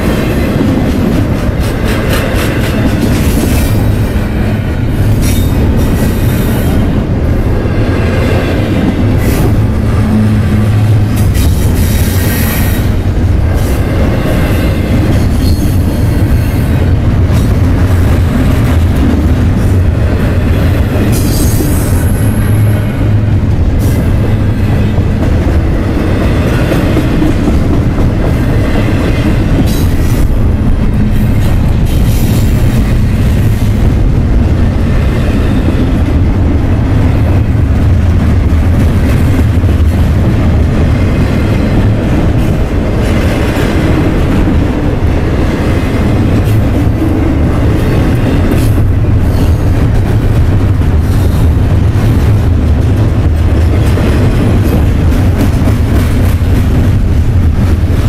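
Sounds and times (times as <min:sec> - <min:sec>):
freight train rumbling past: 0:00.0 - 0:58.0
rail cars clattering: 0:00.0 - 0:58.0.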